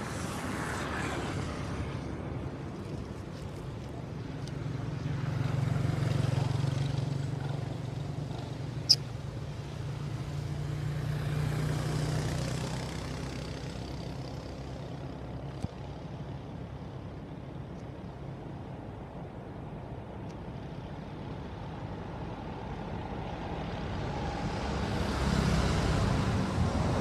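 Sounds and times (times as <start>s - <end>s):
passing traffic: 0.0s - 27.0s.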